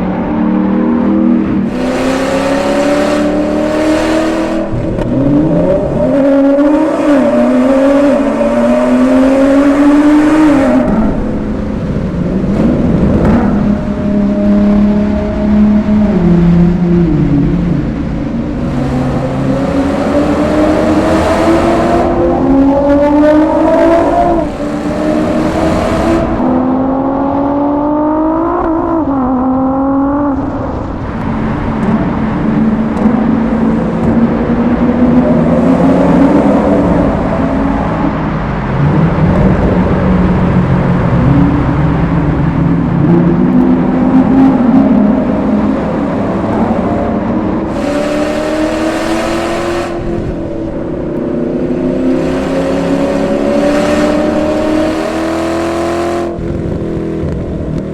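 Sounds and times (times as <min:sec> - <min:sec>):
car exhausts revving in tunnel: 0:00.0 - 0:57.8.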